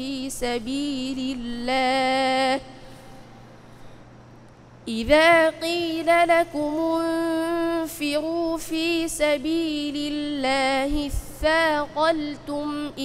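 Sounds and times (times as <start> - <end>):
boy chanting melodically: 0.0 - 3.3, 4.9 - 13.0.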